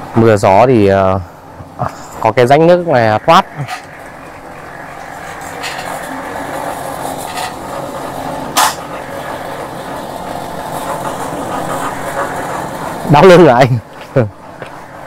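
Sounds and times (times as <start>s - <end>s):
engine-like rumble: 0.0s - 15.0s.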